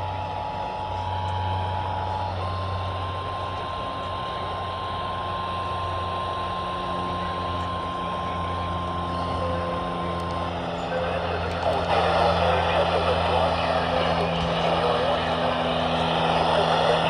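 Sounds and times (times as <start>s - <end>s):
radio static and hum: 0.0s - 17.0s.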